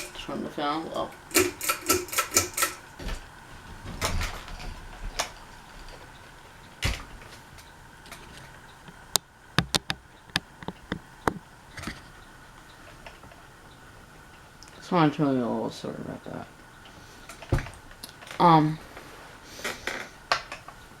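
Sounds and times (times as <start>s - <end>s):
ceiling fan control clicks: 0.0s - 21.0s
faint steady fan hum: 0.0s - 21.0s.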